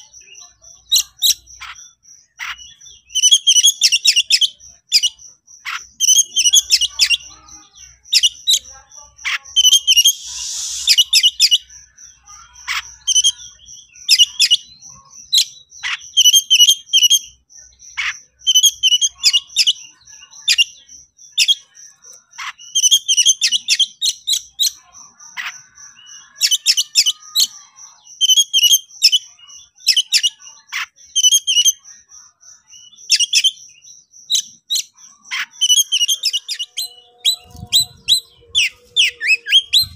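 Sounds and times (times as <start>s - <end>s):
bird singing chirped phrases: 0.0s - 39.9s.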